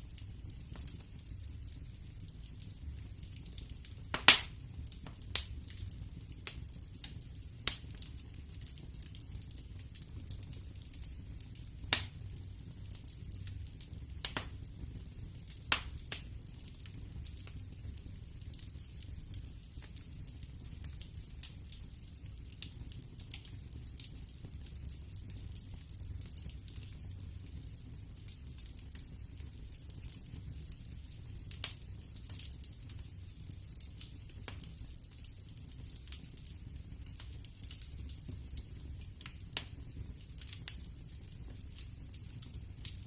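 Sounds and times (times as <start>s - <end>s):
low fire rumble: 0.0s - 43.0s
wood fire crackling: 0.0s - 43.0s.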